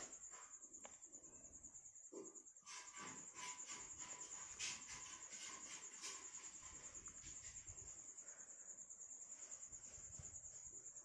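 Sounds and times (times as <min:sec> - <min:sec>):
faint insect trill: 0:00.0 - 0:11.0.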